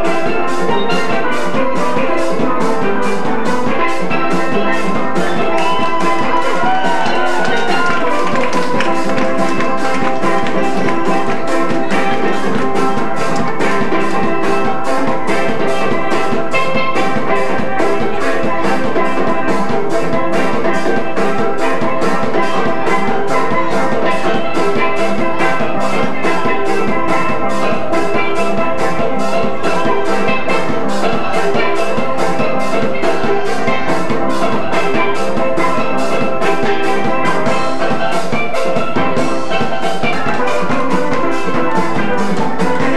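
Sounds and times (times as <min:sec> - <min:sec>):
music with steady drum beat: 0:00.0 - 0:42.9.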